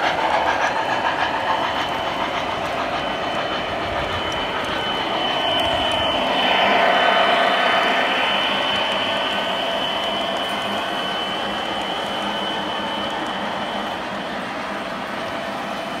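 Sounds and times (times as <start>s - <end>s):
model train wheels and motors whirring: 0.0s - 16.0s
thin high whine: 1.4s - 16.0s.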